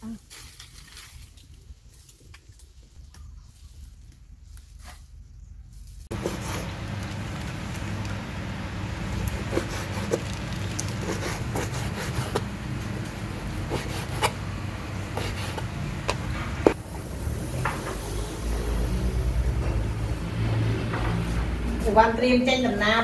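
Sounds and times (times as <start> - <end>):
steady low hum: 1.1 - 22.4.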